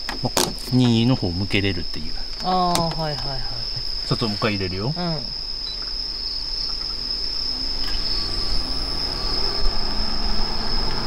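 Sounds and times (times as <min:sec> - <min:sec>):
air conditioner motor hum: 0:00.0 - 0:10.9.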